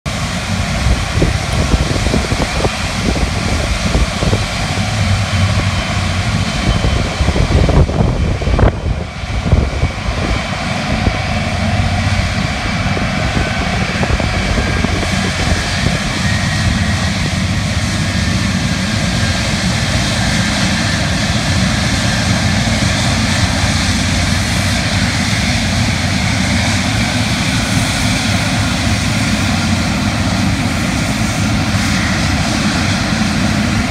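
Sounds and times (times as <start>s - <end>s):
jet engine rumble and whine: 0.1s - 33.9s
wind buffeting on microphone: 0.1s - 33.9s.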